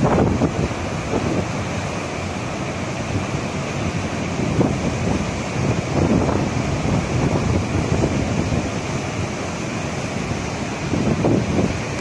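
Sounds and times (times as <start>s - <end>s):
river water rushing: 0.0s - 12.0s
wind buffeting microphone: 0.0s - 12.0s.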